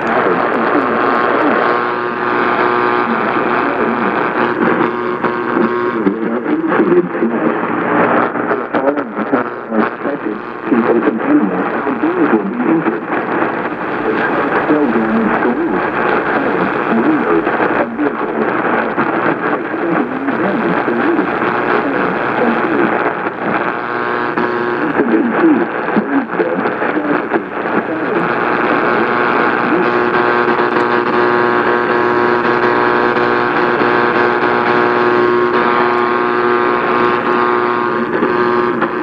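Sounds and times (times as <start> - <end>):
indistinct radio voice: 0.0 - 39.0
static hiss: 0.0 - 39.0
steady buzzing tone: 0.0 - 39.0.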